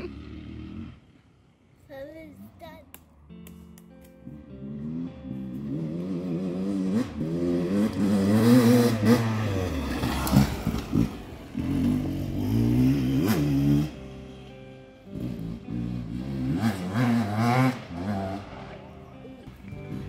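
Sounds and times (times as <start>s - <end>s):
motorcycle engine revving: 0.0s - 1.8s, 4.2s - 20.0s.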